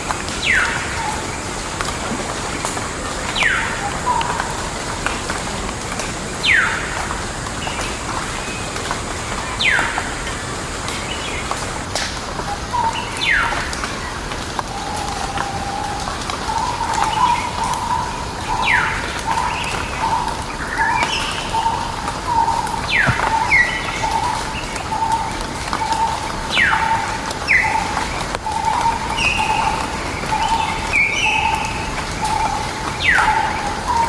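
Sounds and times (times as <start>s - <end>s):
background hiss: 0.0s - 34.0s.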